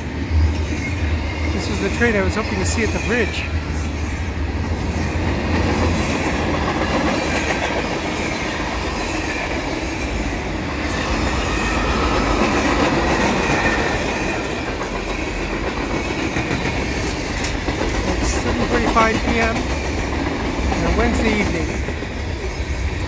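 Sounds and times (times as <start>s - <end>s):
freight train wheels on rails: 0.0s - 23.0s.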